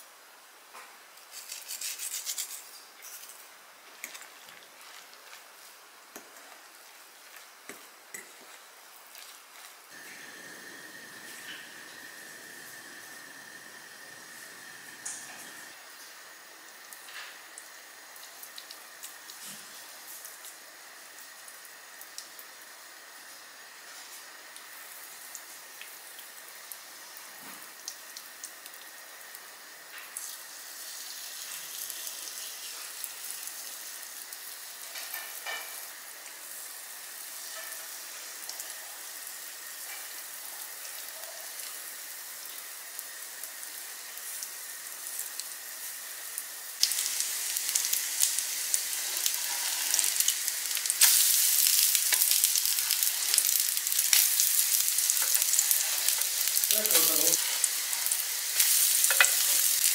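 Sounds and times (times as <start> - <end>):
fritters sizzling in oil: 0.7 - 59.9.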